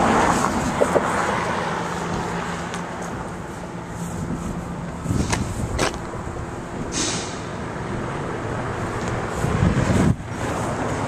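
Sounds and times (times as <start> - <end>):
outdoor noise: 0.0 - 11.0
vehicle engine running: 0.0 - 11.0.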